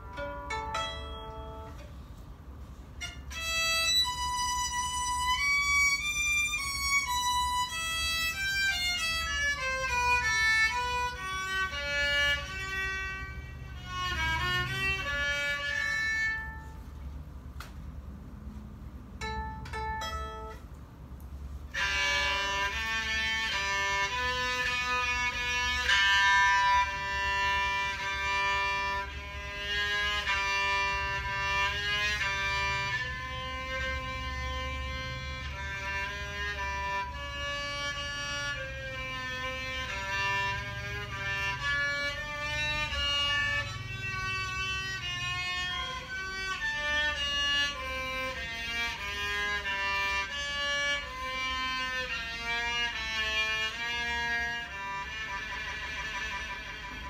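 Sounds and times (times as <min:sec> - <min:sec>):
electric violin plucked notes: 0:00.0 - 0:01.9, 0:03.0 - 0:16.8, 0:19.2 - 0:20.7, 0:21.7 - 0:57.0
electric violin bowed notes with slides: 0:02.9 - 0:16.8, 0:21.7 - 0:57.0.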